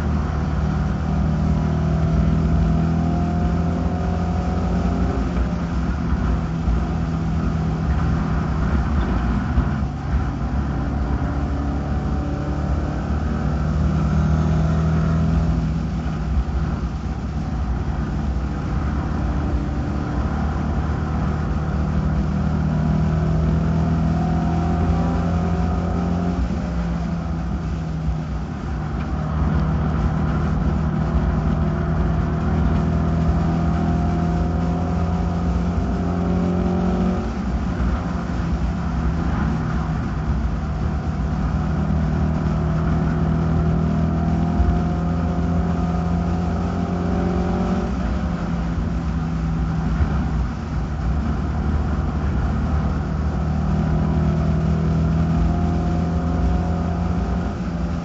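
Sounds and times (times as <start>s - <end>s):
race car engine running hard: 0.0s - 58.0s
road and wind noise: 0.0s - 58.0s.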